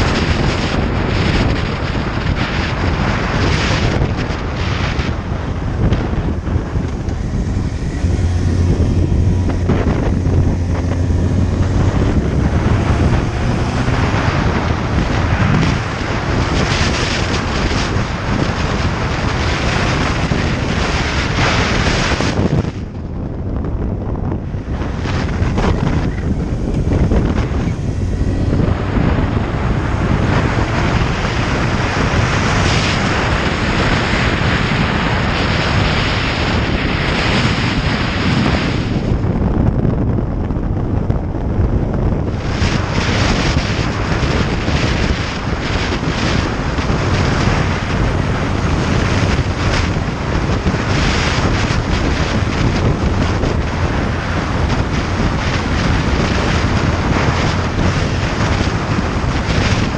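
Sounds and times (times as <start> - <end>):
motorcycle engine drone: 0.0 - 59.9
wind buffeting microphone: 0.0 - 59.9.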